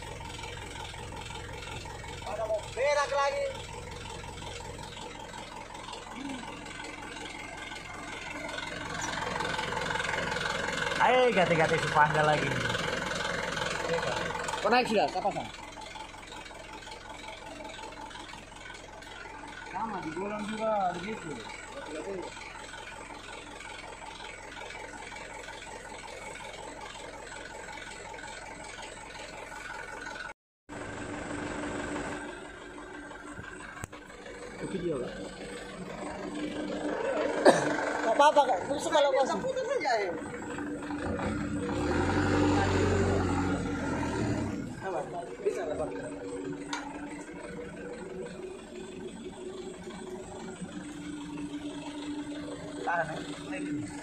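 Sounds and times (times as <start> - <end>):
engine hum: 0.0 - 54.0
truck engine idling: 0.0 - 54.0.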